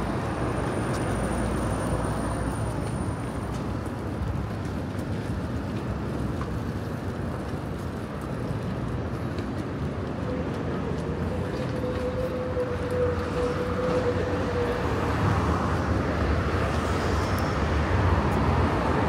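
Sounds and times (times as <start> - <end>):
traffic rumble: 0.0 - 19.0
urban hubbub: 0.0 - 19.0.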